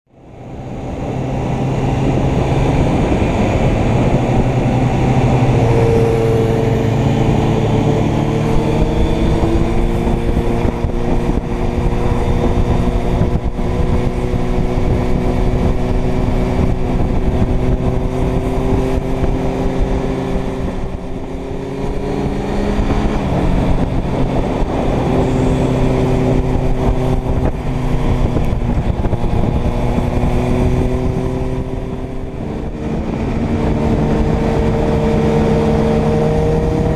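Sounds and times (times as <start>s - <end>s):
heavy wind noise: 0.1s - 36.9s
motorcycle engine running: 0.1s - 36.9s.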